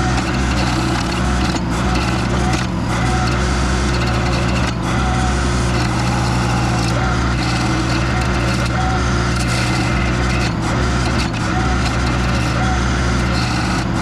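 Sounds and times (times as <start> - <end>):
cutter wheel grinding wood: 0.0 - 14.0
stump grinder engine under load: 0.0 - 14.0.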